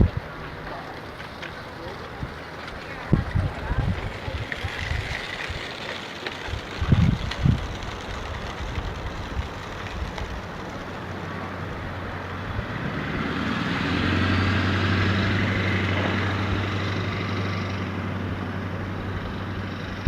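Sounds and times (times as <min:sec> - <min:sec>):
motor vehicle passing: 0:00.0 - 0:20.0.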